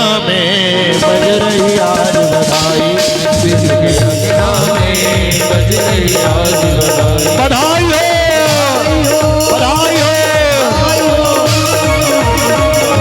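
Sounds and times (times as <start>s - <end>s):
steady drum beat: 0.8s - 13.0s
rhythmic shaker rattle: 1.7s - 13.0s.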